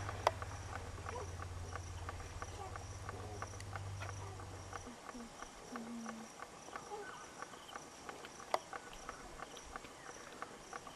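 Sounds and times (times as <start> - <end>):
faint pulsing insect chirp: 0.0 - 10.9
insect sharp ticks: 0.0 - 10.9.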